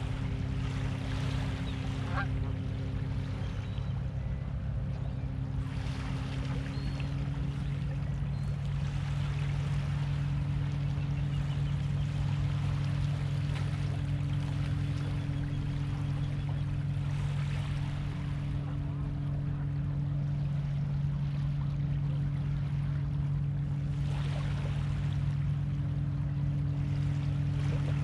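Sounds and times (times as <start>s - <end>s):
low motor hum: 0.0s - 28.0s
small waves washing: 0.0s - 28.0s.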